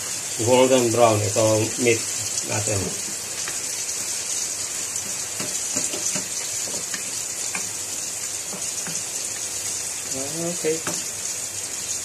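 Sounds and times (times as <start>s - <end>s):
meat sizzling in frying pan: 0.0s - 12.0s.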